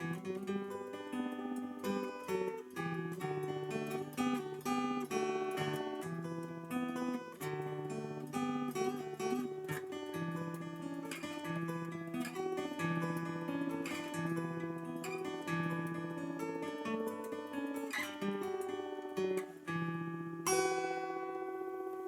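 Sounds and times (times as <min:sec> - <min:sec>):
fingerpicked acoustic guitar: 0:00.0 - 0:22.0.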